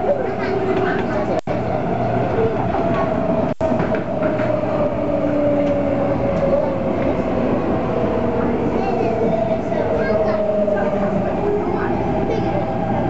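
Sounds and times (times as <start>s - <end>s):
train rolling noise: 0.0s - 13.0s.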